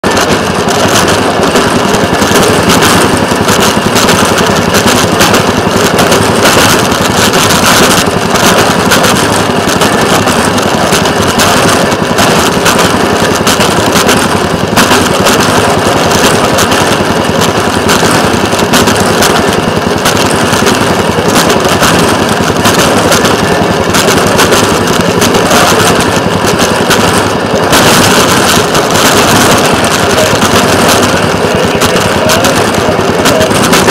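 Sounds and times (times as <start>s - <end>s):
small engine clattering on rails: 0.0s - 33.9s.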